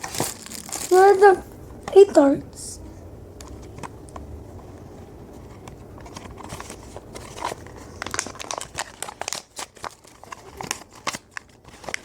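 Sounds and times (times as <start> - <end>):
plastic packaging crinkling: 0.0 - 2.1, 3.4 - 12.0.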